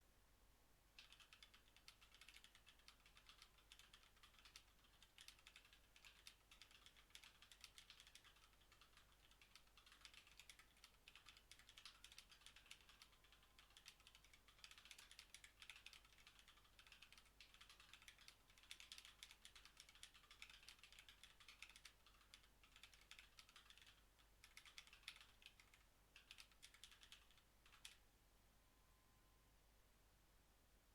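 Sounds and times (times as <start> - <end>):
mechanical keyboard key clicks: 1.0 - 28.0.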